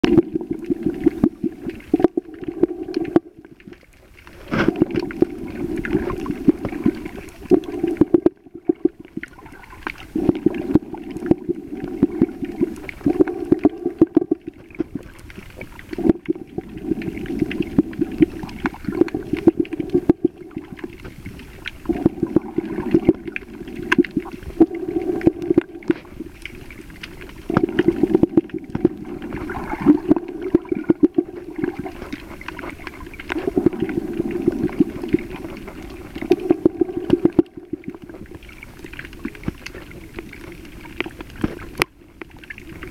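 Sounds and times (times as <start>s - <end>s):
sharp underwater clicks and crackles: 0.0s - 42.9s
water surging and sloshing: 0.0s - 42.9s.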